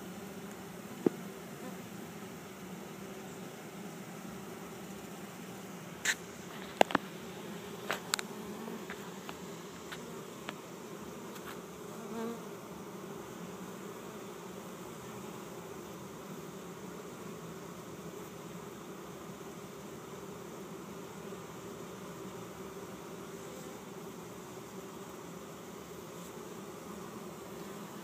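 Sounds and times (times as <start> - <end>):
bee swarm buzzing: 0.0 - 28.0.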